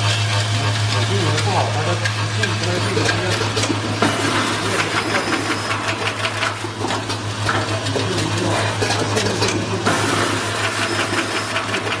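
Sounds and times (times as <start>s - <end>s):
machine clicking and clatter: 0.0s - 12.0s
machine low hum: 0.0s - 12.0s.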